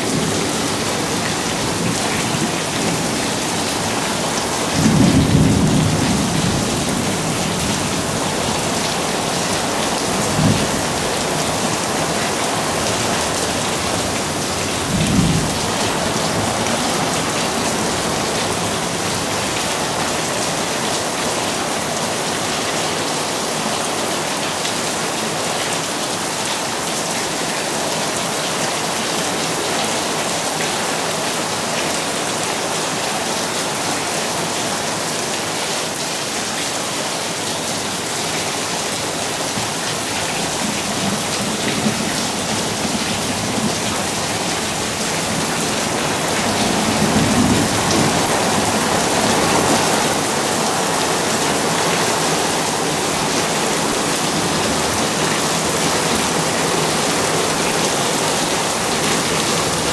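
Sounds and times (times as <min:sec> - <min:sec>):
heavy rain on concrete: 0:00.0 - 0:59.9.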